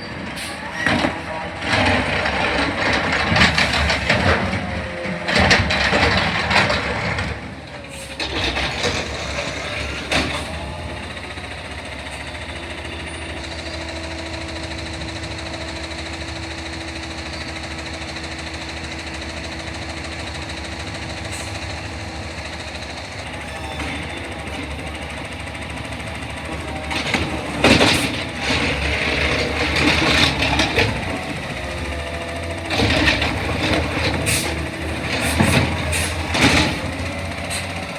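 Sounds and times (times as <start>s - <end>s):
garbage truck clattering: 0.0s - 37.9s
truck engine idling: 0.0s - 37.9s.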